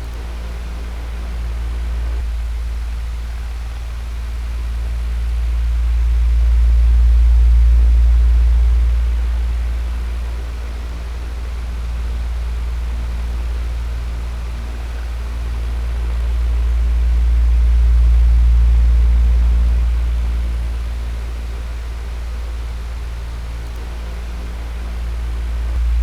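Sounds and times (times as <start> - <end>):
electric fan whooshing hum: 0.0 - 26.0.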